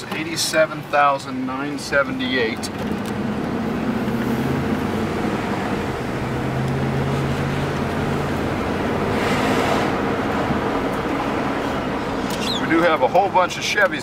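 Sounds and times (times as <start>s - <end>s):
truck engine hum: 0.0s - 14.0s
tyre and road noise: 0.0s - 14.0s.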